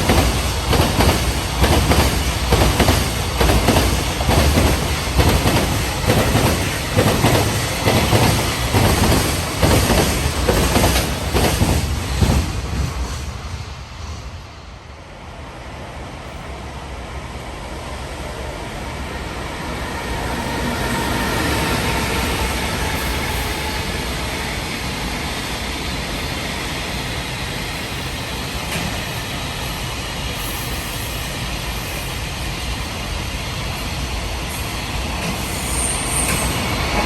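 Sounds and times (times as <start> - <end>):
freight train wheels rumbling: 0.0 - 37.0.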